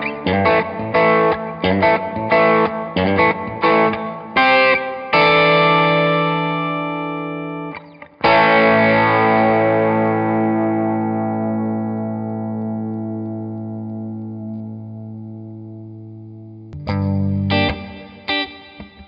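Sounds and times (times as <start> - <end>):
electric guitar chords with reverb: 0.0 - 19.0.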